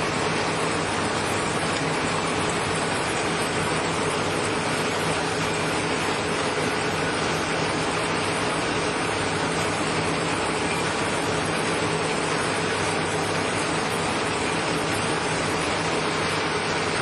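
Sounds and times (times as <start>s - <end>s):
rope-making machine running: 0.0s - 17.0s.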